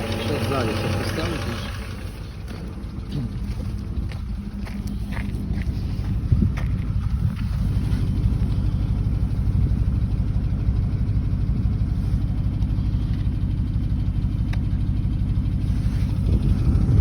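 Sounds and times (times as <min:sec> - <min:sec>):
car engine idling: 0:00.0 - 0:17.0
faint engine tick: 0:00.0 - 0:17.0.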